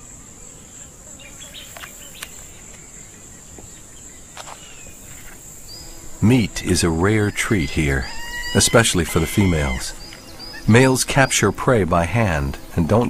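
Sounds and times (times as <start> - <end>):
high-pitched insect drone: 0.0 - 13.0
faint bird chirps: 0.6 - 11.5.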